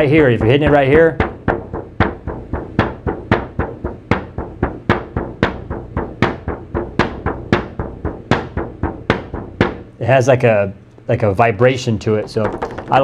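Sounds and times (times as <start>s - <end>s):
frame drum struck with beater: 0.0s - 10.1s, 12.2s - 13.0s.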